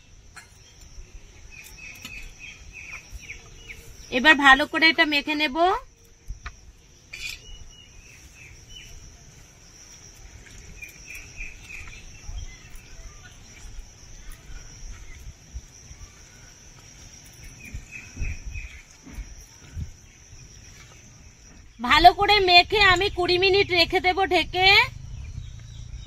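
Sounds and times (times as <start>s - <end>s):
birds chirping: 0.0s - 26.0s
high insect drone: 0.0s - 26.0s.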